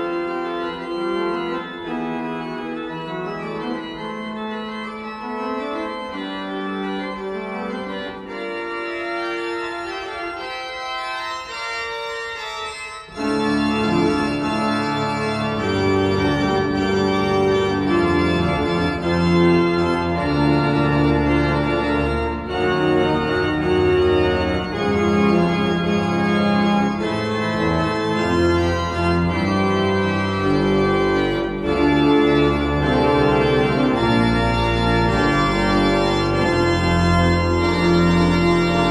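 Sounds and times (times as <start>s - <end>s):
deep organ bass notes: 0.0s - 38.9s
pipe organ chords: 0.0s - 38.9s.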